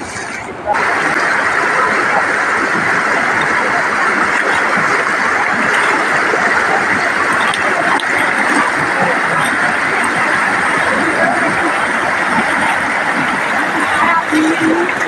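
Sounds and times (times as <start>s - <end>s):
floodwater rushing over spillway: 0.0s - 15.0s.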